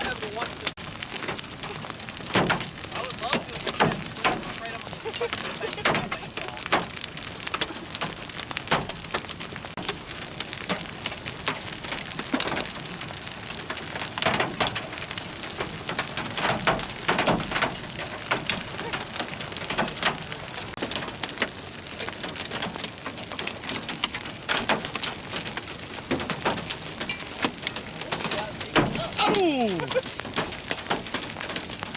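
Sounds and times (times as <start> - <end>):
hailstones striking hard surfaces: 0.0 - 31.9
heavy rain downpour: 0.0 - 31.9.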